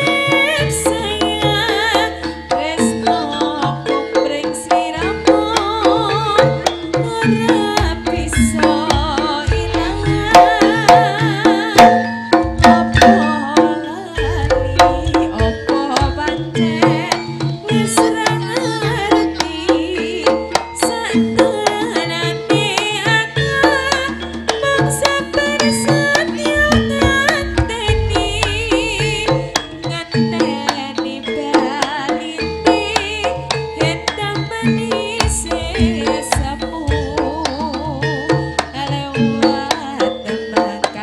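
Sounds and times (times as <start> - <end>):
hand drums beating busy rhythm: 0.0 - 41.0
metallophone tones: 0.0 - 41.0
wavering high lead melody: 0.0 - 41.0.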